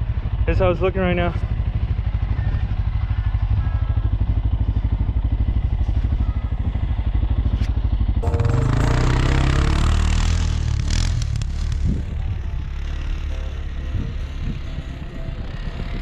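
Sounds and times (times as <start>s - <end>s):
quad bike engine idling and revving: 0.0s - 16.0s.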